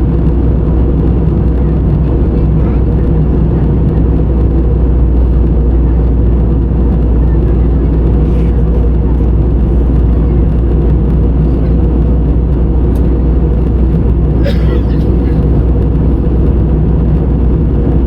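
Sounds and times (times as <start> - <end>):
jet cabin engine rumble: 0.0 - 18.0.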